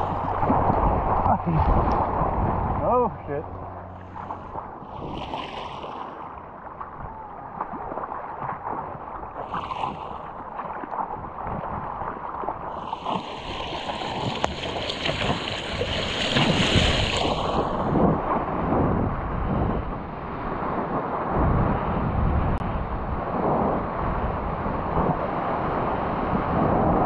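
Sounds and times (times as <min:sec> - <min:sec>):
ocean water sloshing and splashing: 0:00.0 - 0:27.0.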